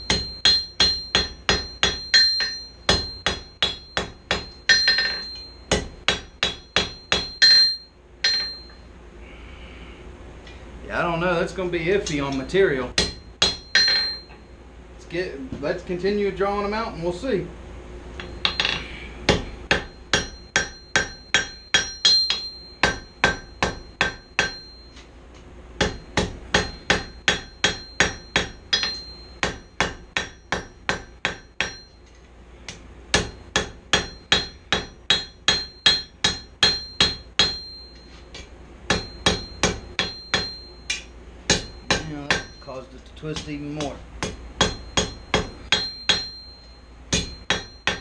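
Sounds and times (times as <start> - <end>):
hammer striking steel on anvil: 0.0 - 8.8, 12.0 - 14.5, 18.1 - 25.1, 25.8 - 32.1, 32.7 - 48.0.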